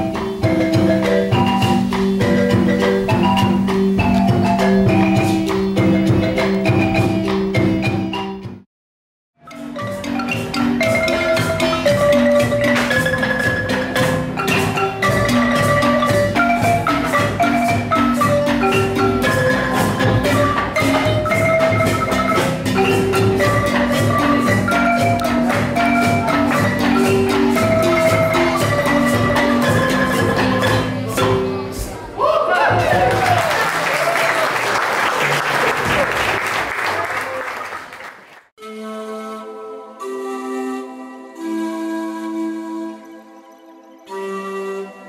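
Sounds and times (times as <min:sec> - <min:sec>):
marimba music: 0:00.0 - 0:08.6, 0:09.4 - 0:31.9, 0:32.6 - 0:34.4, 0:38.6 - 0:45.0.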